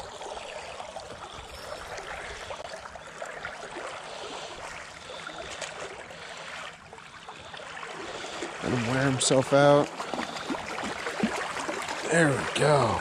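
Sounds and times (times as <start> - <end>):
creek water over gravel: 0.0 - 13.0.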